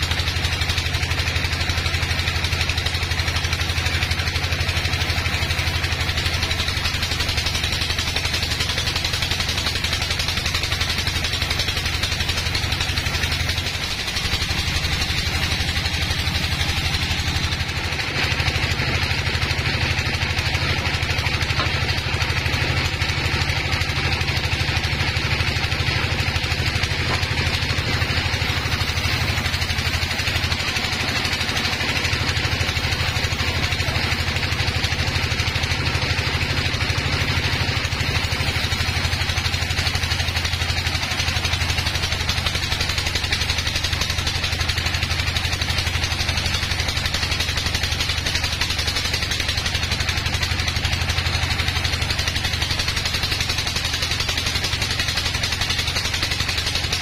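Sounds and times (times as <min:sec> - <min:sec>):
band saw sawing timber: 0:00.0 - 0:57.0.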